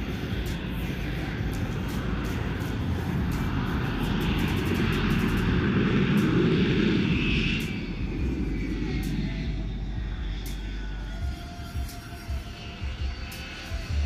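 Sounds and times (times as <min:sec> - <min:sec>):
jet engine roaring: 0:00.0 - 0:14.0.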